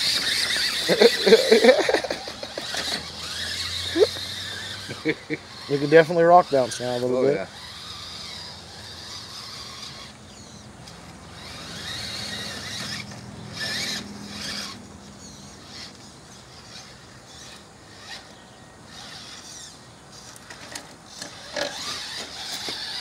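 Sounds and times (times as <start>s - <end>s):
electric motors whining through gears: 0.0s - 23.0s.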